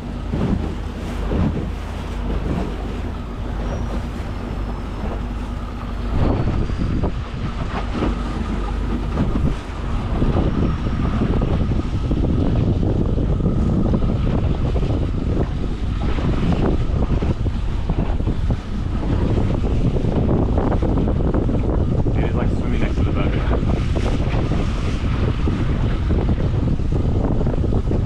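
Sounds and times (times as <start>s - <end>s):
boat engine humming: 0.0s - 28.0s
wind buffeting microphone: 0.0s - 28.0s.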